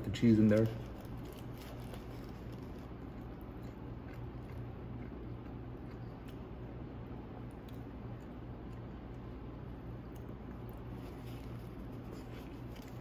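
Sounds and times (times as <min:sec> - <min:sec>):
low steady hum: 0:00.0 - 0:13.0
person chewing: 0:00.8 - 0:06.8, 0:07.4 - 0:13.0.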